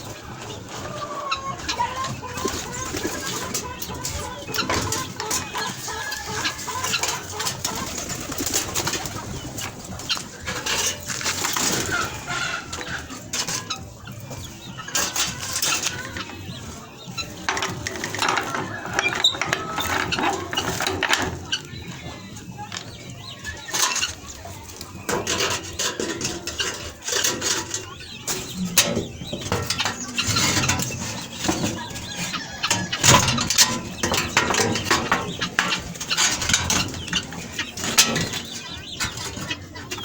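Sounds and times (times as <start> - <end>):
poultry calling: 0.0 - 40.0.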